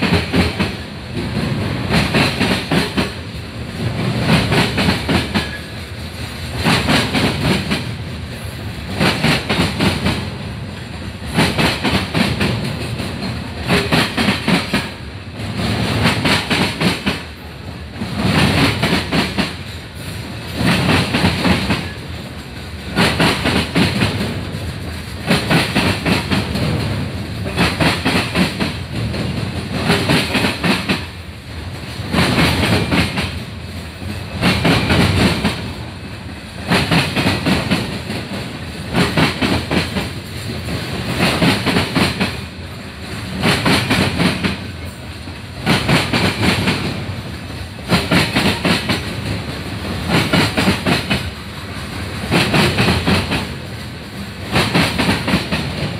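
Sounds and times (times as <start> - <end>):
freight train rumbling past: 0.0 - 55.9
train wheels clickety-clack: 0.0 - 55.9.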